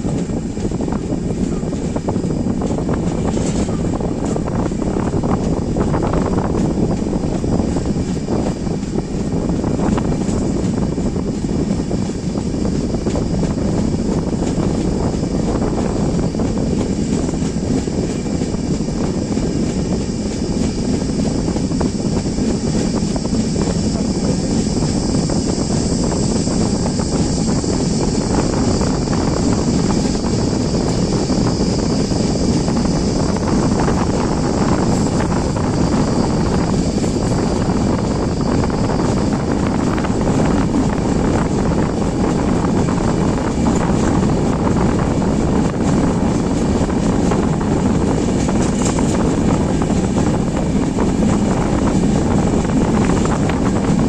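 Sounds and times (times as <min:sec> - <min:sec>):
passenger train running at speed: 0:00.0 - 0:54.0
wind buffeting microphone: 0:00.0 - 0:54.0.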